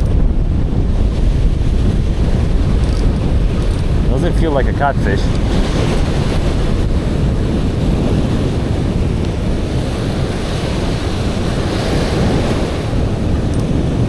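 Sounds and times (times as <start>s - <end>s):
breaking surf: 0.0s - 14.0s
wind buffeting microphone: 0.0s - 14.0s.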